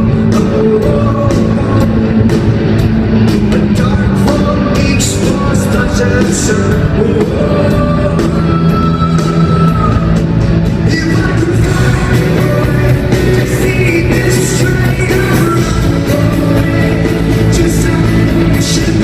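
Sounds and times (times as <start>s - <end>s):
person singing: 0.0s - 2.6s, 3.2s - 19.0s
rock band playing: 0.0s - 19.0s.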